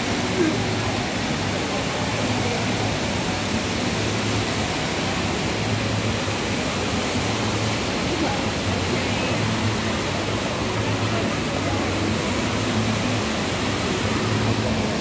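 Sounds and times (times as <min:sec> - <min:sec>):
indoor waterfall rushing: 0:00.0 - 0:15.0.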